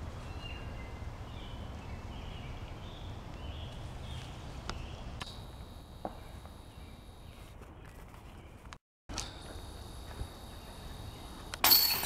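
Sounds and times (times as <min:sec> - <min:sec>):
small birds chirping: 0:00.2 - 0:11.6.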